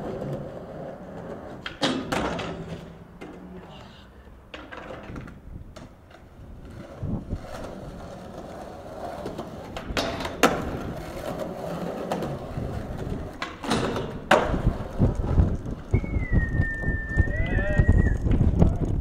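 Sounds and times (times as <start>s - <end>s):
skateboard clacking: 0.0s - 3.6s, 4.5s - 19.0s
skateboard grinding on rail: 0.0s - 17.0s
skateboard wheels rolling on concrete: 0.0s - 19.0s.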